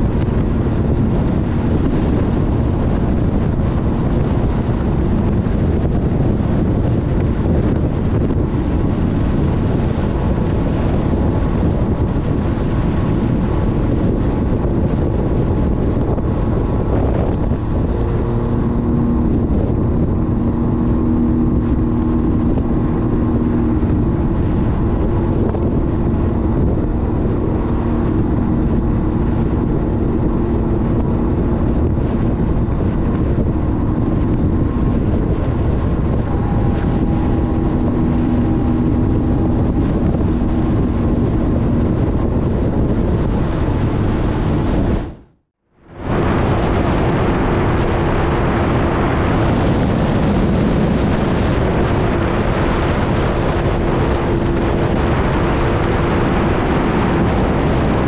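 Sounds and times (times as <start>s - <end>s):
personal watercraft engine rumble: 0.0s - 58.0s
rushing water: 0.0s - 58.0s
wind buffeting microphone: 0.0s - 58.0s.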